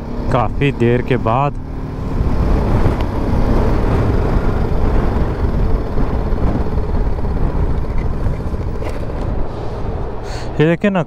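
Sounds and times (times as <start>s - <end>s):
motorcycle engine running: 0.0s - 10.2s
wind rumble on microphone: 1.4s - 10.9s.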